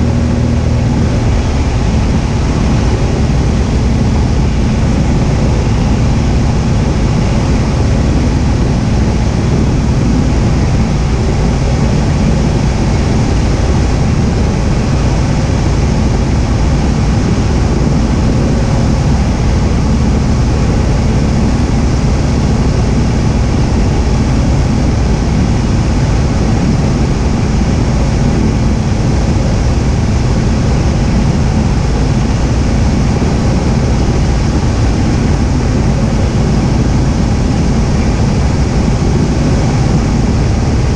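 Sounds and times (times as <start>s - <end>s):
airplane engine drone in cockpit: 0.0s - 40.9s.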